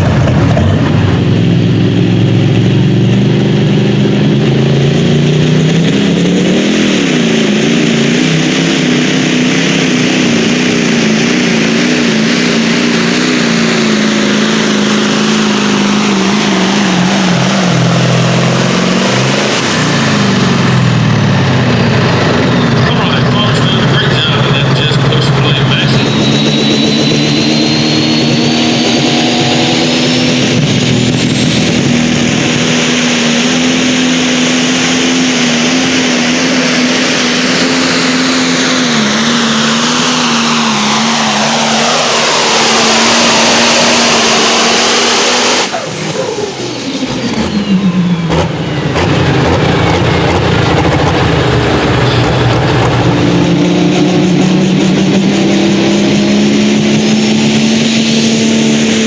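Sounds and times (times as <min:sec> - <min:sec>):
engine running flat out under load: 0:00.0 - 0:59.0
engine running steadily: 0:00.0 - 0:59.0
engine winding down: 0:00.0 - 0:59.0.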